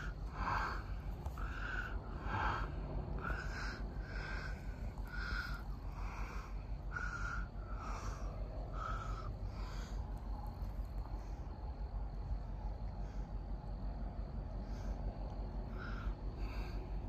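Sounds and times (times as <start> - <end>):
high insect drone: 0.0 - 17.0
low wind rumble: 0.0 - 17.0.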